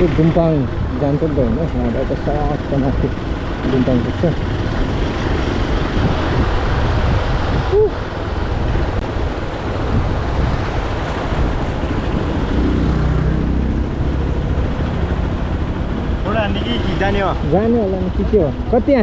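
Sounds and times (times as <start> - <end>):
motorcycle engine running: 0.0 - 7.5, 8.1 - 19.0
wind on microphone: 0.0 - 16.2.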